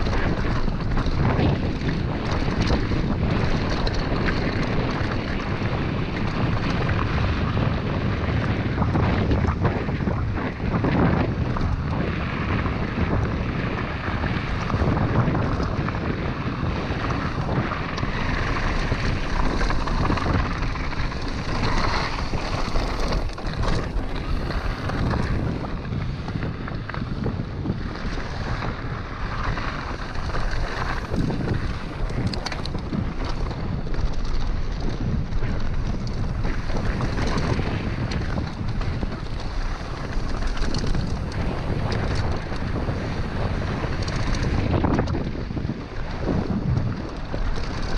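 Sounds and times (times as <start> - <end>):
bike rattling and knocking: 0.0 - 47.9
tyres rumbling on gravel: 0.0 - 47.9
wind buffeting microphone: 0.0 - 47.9.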